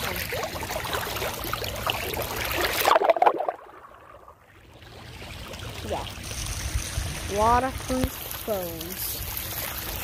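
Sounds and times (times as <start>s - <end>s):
floodwater flowing and splashing: 0.0s - 10.0s.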